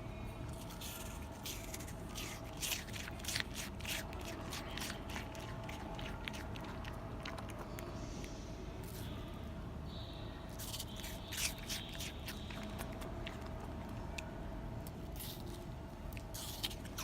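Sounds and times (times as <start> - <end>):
faint steady hum: 0.0 - 17.0
animal crunching apple: 0.4 - 9.3, 10.5 - 17.0.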